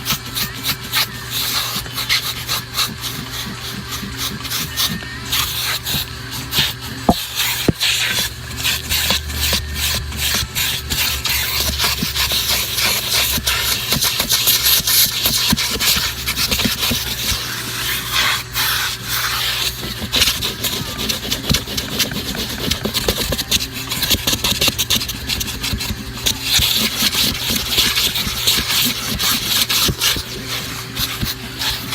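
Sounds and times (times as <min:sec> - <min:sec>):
scraping strokes on carpet: 0:00.0 - 0:31.9
vacuum motor hum: 0:00.0 - 0:31.9.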